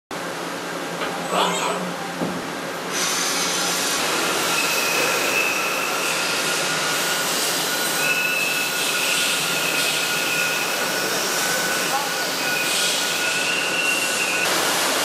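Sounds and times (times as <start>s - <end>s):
lathe cutting metal hiss: 2.9s - 15.0s.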